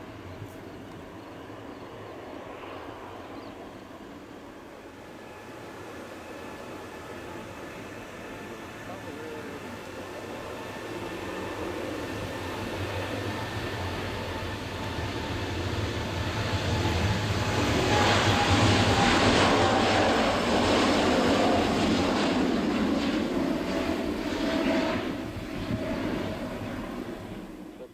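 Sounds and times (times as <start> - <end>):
jet airliner taking off: 0.0 - 27.9.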